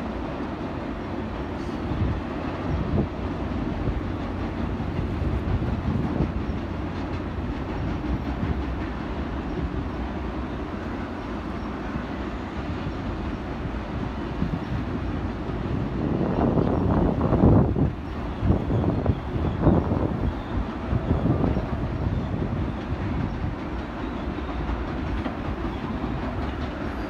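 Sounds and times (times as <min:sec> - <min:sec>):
train wheels rumbling on trestle: 0:00.0 - 0:27.0.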